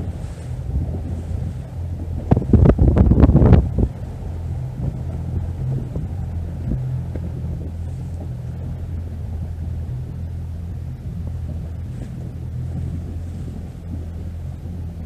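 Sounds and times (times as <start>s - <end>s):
boat motor humming: 0.0s - 15.0s
wind on microphone: 0.0s - 15.0s.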